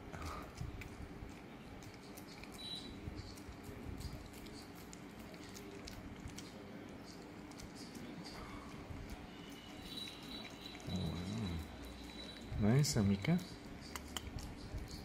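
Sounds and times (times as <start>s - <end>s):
dog licking and chewing: 0.1s - 15.0s.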